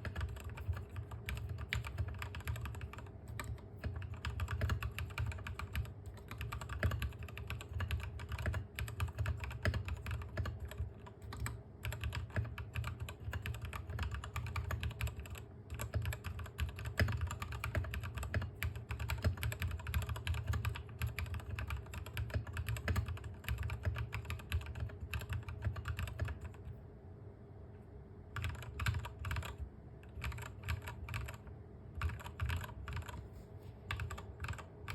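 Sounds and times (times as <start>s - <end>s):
mechanical keyboard typing: 0.0s - 26.7s, 28.3s - 33.2s, 33.9s - 34.9s.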